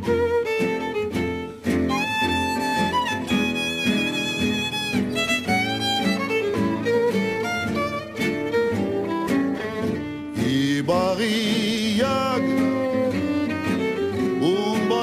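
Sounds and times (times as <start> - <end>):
instrumental music with sliding melody: 0.0 - 15.0.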